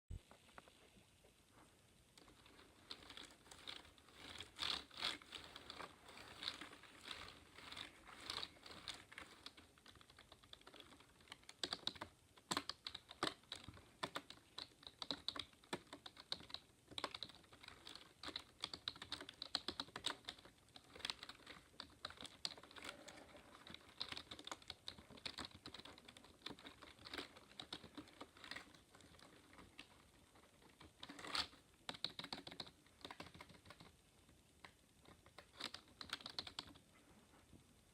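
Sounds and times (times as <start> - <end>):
typing on computer keyboard: 2.9 - 30.0, 30.7 - 33.9, 35.0 - 36.8.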